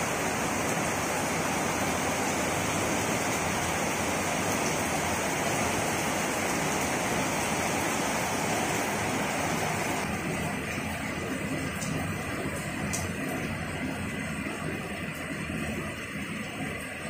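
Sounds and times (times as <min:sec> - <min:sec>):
heavy rain on leaves: 0:00.0 - 0:17.0.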